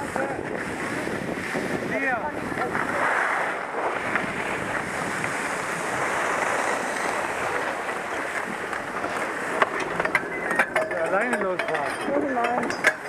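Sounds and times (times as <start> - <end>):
skis scraping over snow: 0.0 - 11.2.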